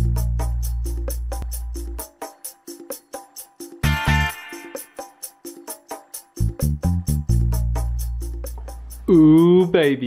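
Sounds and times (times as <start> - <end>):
music with percussion beat: 0.0 - 10.0.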